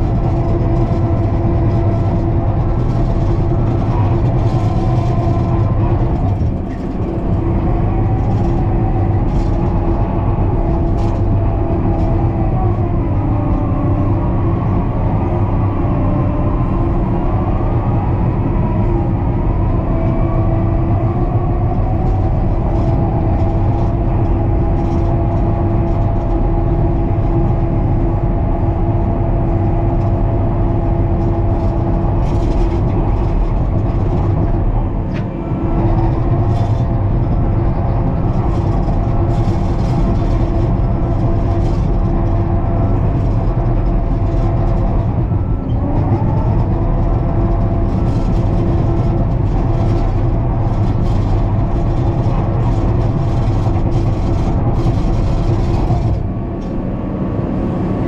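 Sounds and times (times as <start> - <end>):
constant whine: 0.0 - 58.0
diesel engine rumble: 0.0 - 58.0.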